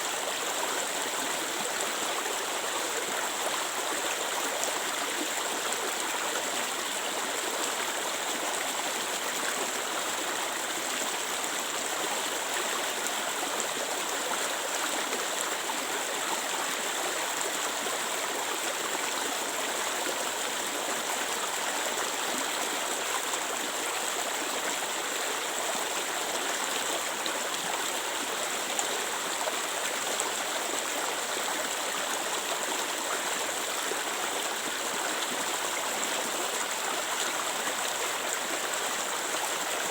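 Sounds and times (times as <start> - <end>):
water flowing in stream: 0.0 - 39.9.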